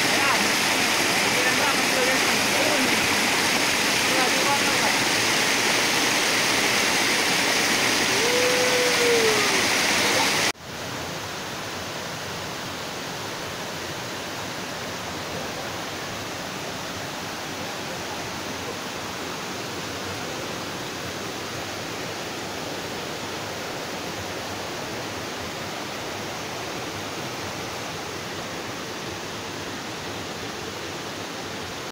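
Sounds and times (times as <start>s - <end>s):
stream rushing over boulders: 0.0s - 31.9s.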